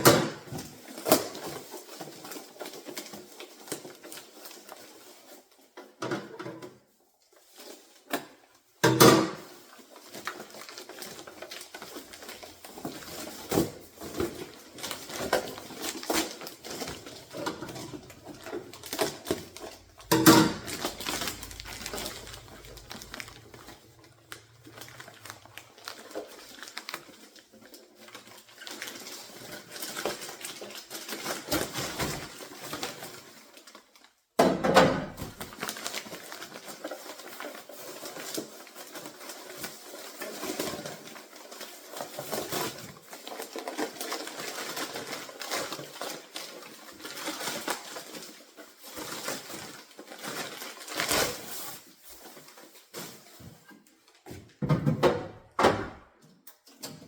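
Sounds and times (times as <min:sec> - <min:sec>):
packaging rustling and crackling: 0:00.0 - 0:06.0, 0:06.8 - 0:08.8, 0:09.4 - 0:34.3, 0:35.0 - 0:54.6.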